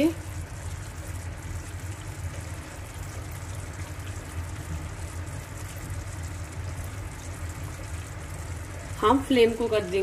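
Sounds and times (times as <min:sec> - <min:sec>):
syrup boiling in a frying pan: 0:00.0 - 0:10.0.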